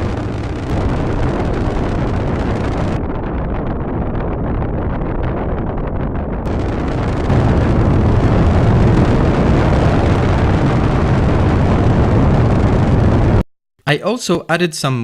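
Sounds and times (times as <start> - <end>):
rocket thruster: 0.0 - 13.4
deep rumble: 0.0 - 13.5.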